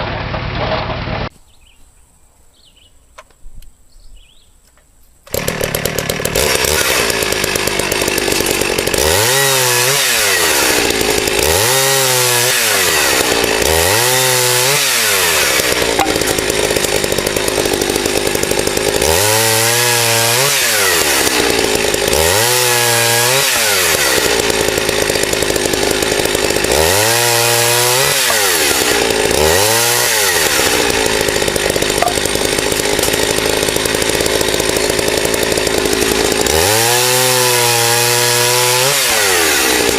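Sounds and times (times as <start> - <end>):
chainsaw cutting wood: 0.1 - 1.3, 5.2 - 39.9.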